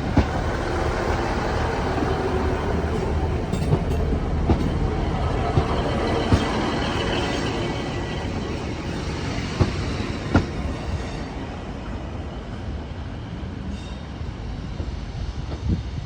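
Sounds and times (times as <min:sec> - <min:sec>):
diesel train rumble: 0:00.0 - 0:16.0.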